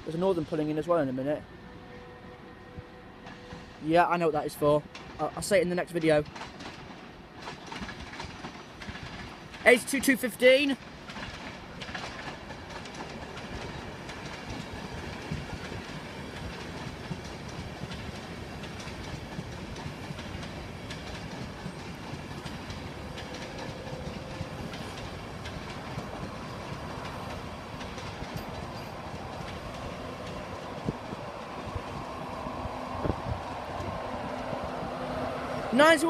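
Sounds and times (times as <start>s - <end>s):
train rumble: 0.0s - 36.0s
train wheels clicking over rail joints: 4.8s - 35.2s.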